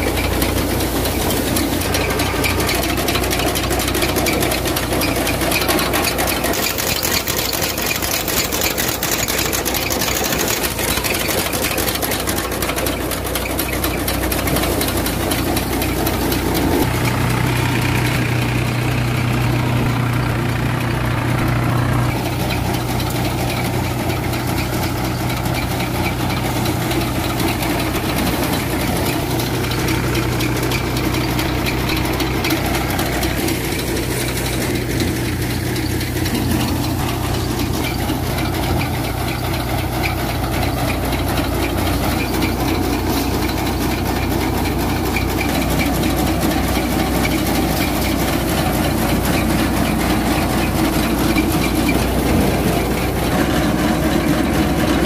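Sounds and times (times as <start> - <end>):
threshing drum rattling: 0.0 - 55.0
tractor diesel engine running: 0.0 - 55.0.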